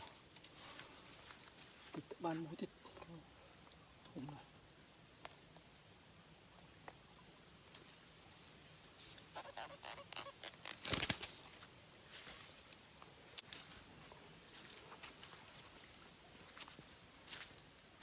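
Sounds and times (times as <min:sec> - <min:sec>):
crickets calling: 0:00.0 - 0:18.0.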